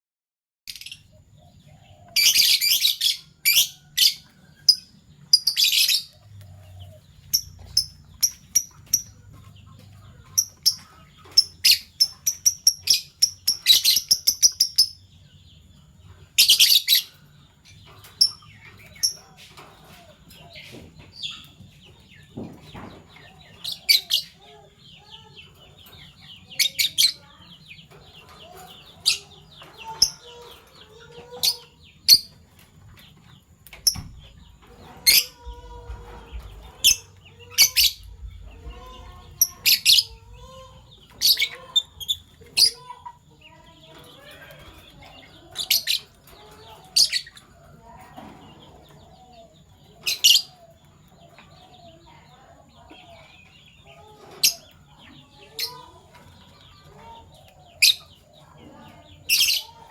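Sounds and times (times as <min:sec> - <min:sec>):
lovebirds chirping: 0:00.7 - 0:59.9.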